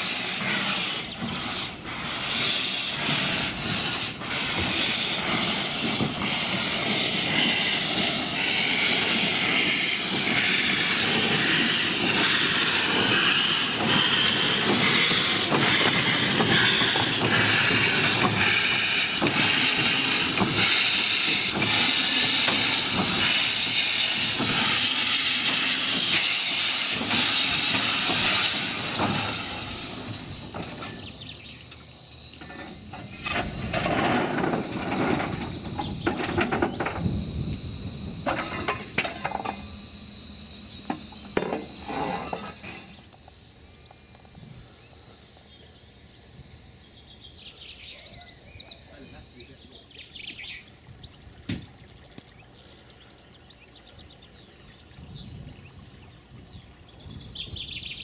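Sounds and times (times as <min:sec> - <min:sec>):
steam locomotive hissing: 0:00.0 - 0:50.9.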